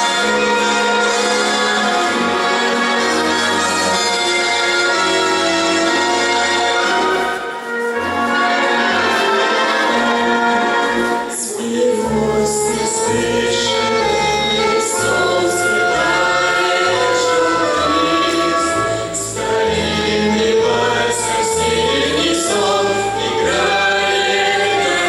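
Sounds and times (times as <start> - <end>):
choir singing sustained notes: 0.0 - 25.0
instrumental accompaniment: 0.0 - 25.0.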